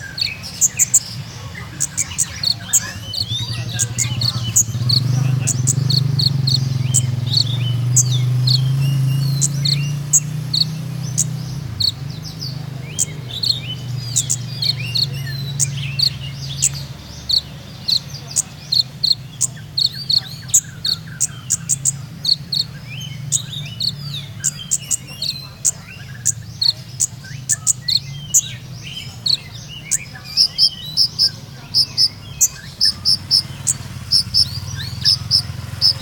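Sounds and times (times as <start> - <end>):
bird singing high chirps: 0.0 - 36.0.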